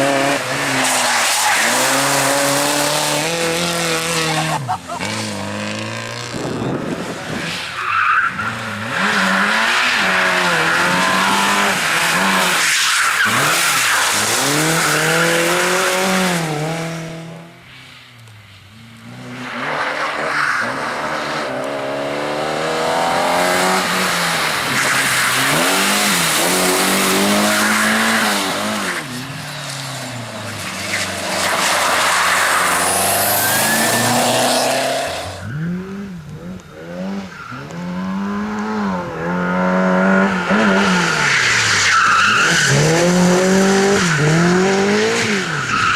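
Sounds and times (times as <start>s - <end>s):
rally car engines revving: 0.0s - 17.8s, 18.6s - 45.9s.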